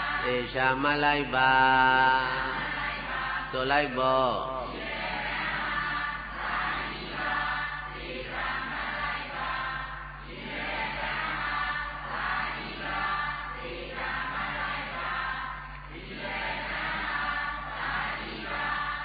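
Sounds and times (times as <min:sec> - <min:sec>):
congregation chanting in unison: 0:00.0 - 0:19.0.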